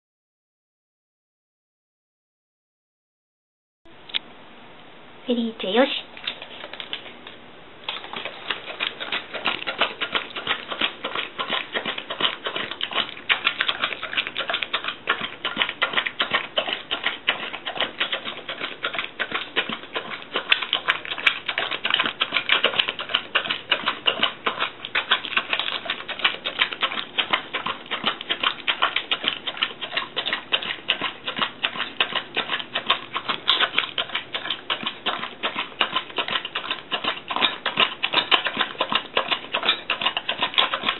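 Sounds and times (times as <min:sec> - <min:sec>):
dog chewing and smacking: 0:06.1 - 0:40.9.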